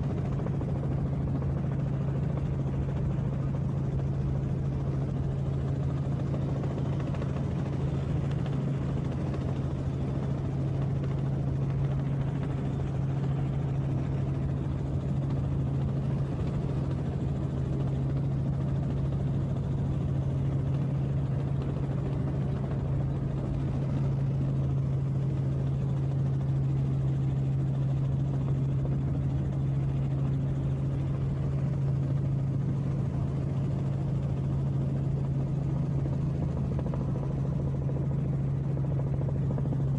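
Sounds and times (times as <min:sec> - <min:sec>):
aircraft engine drone in cabin: 0:00.0 - 0:39.9.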